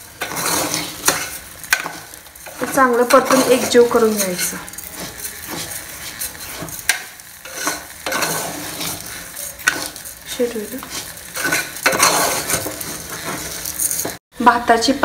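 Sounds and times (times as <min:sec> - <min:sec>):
metal spoon scraping pot: 0:00.0 - 0:14.2
rice sizzling in oil: 0:00.0 - 0:14.2.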